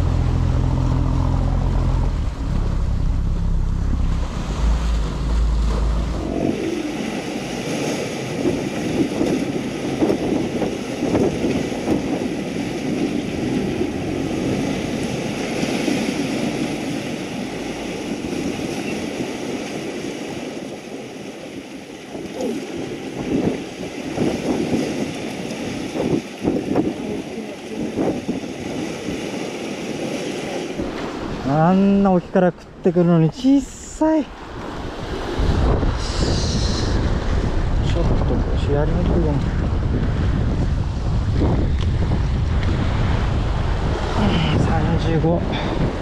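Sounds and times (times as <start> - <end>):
wind buffeting microphone: 0.0 - 32.8, 34.2 - 46.0
boat engine hum: 0.0 - 46.0
waves washing against rocks: 0.0 - 46.0.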